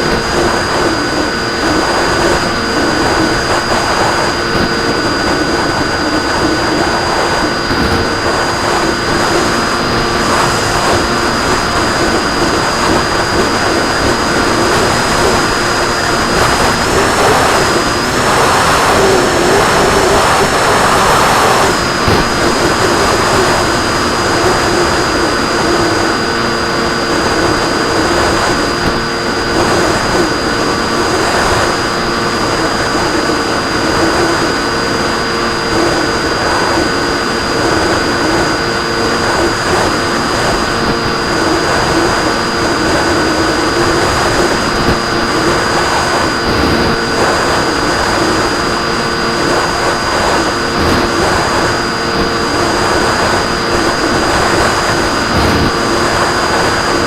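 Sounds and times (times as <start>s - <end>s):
model plane motor whine: 0.0s - 57.0s
rush of air: 0.0s - 57.0s.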